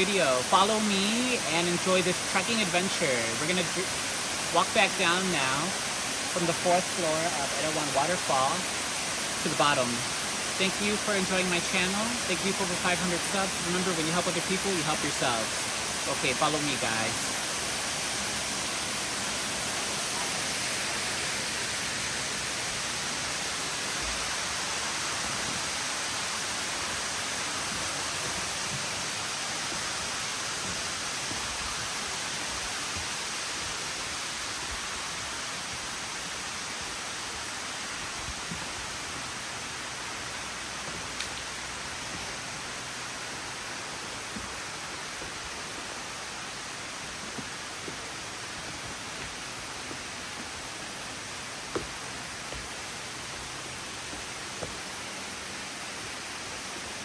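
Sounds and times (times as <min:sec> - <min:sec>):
waterfall rushing hiss: 0:00.0 - 0:57.0.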